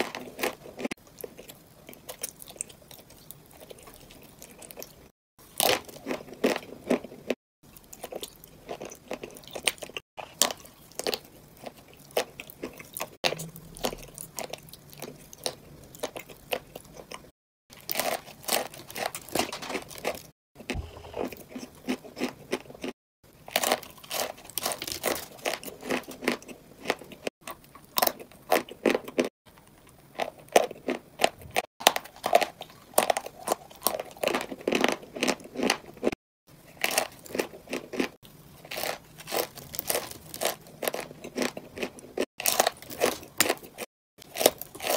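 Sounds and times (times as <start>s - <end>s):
crunching and chewing hard chunks: 0.0s - 44.9s.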